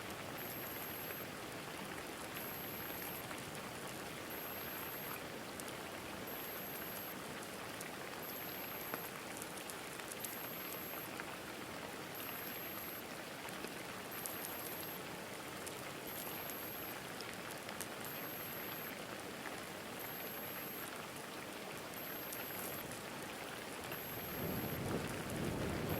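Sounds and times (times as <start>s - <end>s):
rain pattering on a nest: 0.0s - 25.9s
sharp ticks of raindrops: 0.0s - 25.9s.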